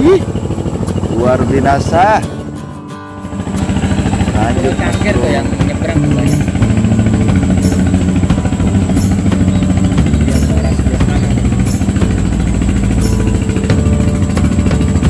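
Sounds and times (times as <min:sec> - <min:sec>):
background music with steady beat: 0:00.0 - 0:15.0.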